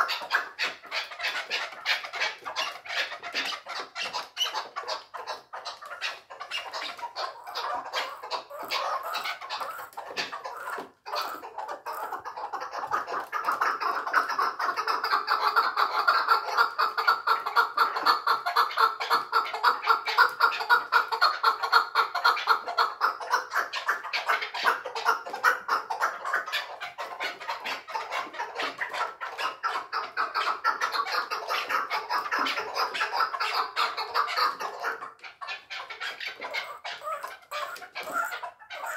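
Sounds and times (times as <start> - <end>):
partridge clucking calls: 0.0 - 38.9.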